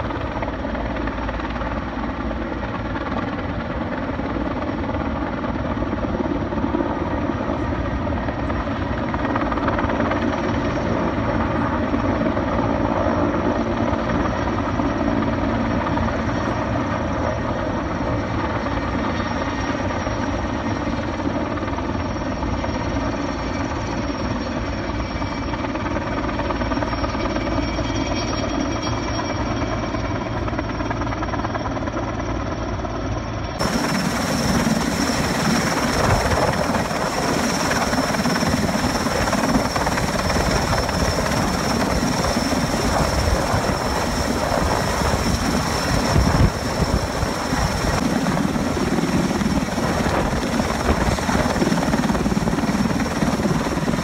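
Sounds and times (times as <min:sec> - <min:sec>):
helicopter rotor and turbine noise: 0:00.0 - 0:54.0.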